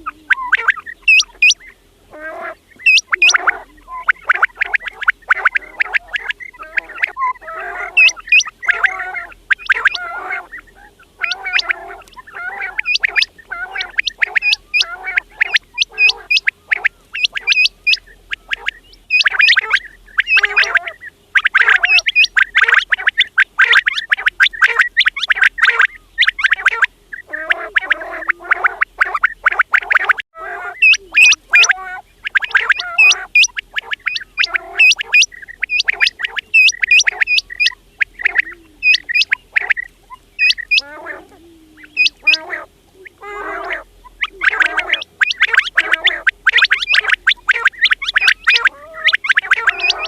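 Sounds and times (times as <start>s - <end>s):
quails calling: 0.0s - 50.0s.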